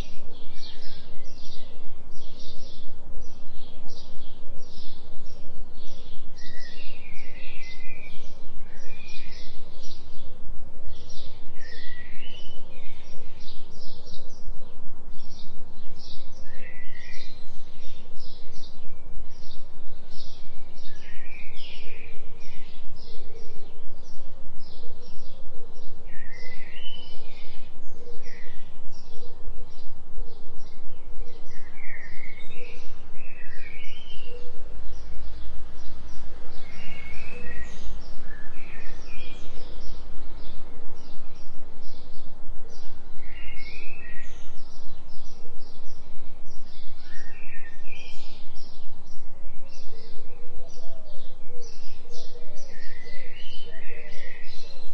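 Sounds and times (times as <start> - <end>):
pulsing low binaural hum: 0.0 - 54.9
small birds chirping: 0.0 - 54.9.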